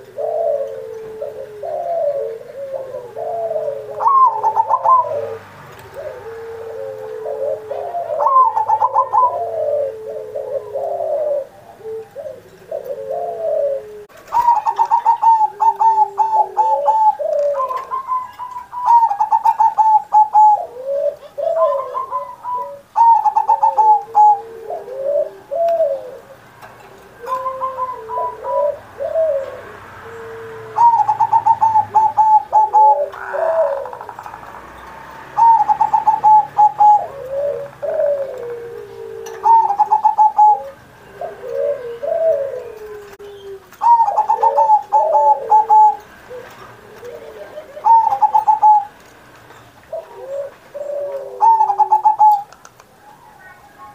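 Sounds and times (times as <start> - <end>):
dove cooing: 0.0 - 49.1, 49.8 - 53.9.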